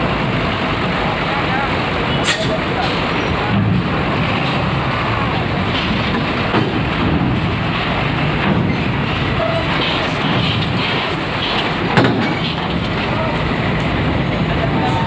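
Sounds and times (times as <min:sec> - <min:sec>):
bus driving up a ramp: 0:00.0 - 0:15.0
diesel engines rumbling: 0:00.0 - 0:15.0.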